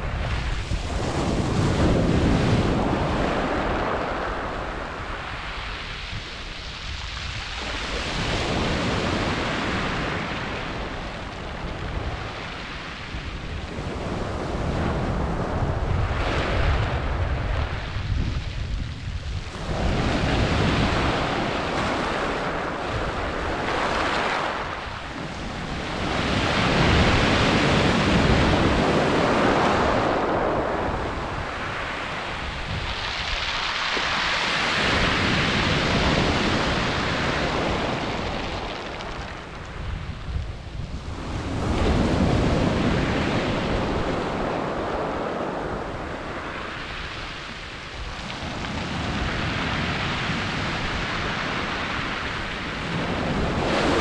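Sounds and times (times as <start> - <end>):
waves washing over pebble beach: 0.0 - 54.0.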